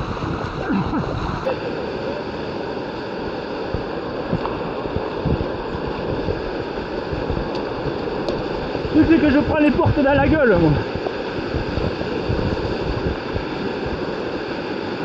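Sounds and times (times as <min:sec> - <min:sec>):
rushing whitewater: 0:00.0 - 0:15.0
wind rumbling on microphone: 0:00.0 - 0:15.0.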